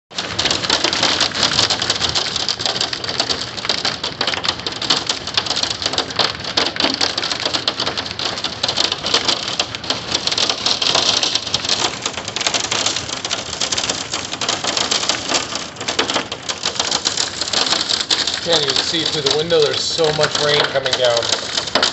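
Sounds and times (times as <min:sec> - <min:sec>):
hailstones clattering: 0:00.1 - 0:21.9
pouring rain: 0:00.1 - 0:21.9.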